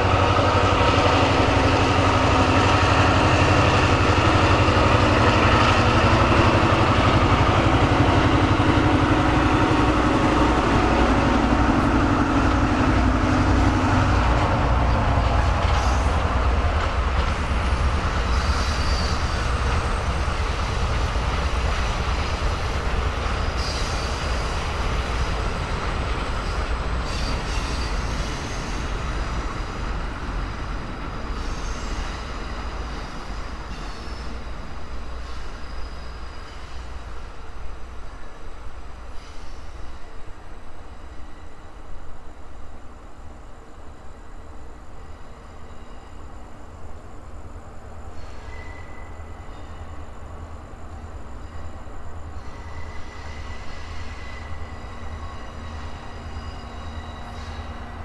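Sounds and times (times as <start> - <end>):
diesel locomotive engine drone: 0.0 - 58.0
train wheels on rails: 0.0 - 58.0.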